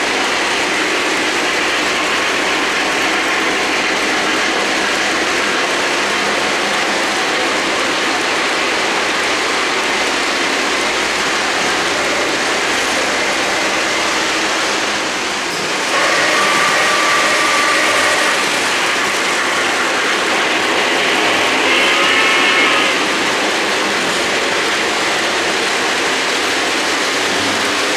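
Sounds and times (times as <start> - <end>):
model train wheels clattering: 0.0 - 27.9.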